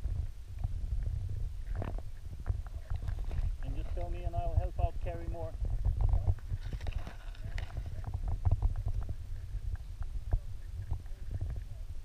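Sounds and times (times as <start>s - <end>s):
small underwater clicks and knocks: 0.0s - 4.2s, 5.6s - 11.8s
underwater water rumble: 0.0s - 12.0s.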